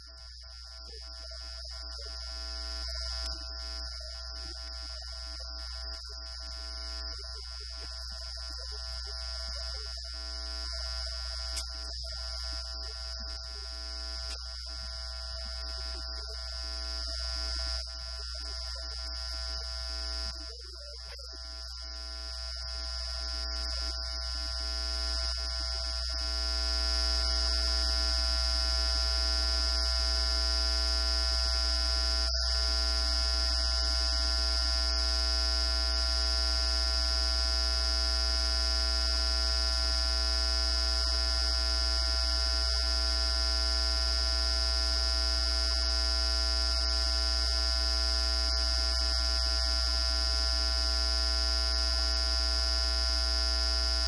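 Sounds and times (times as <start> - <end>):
electrical hum and buzz: 0.0 - 54.0
high electrical whine: 0.0 - 54.0.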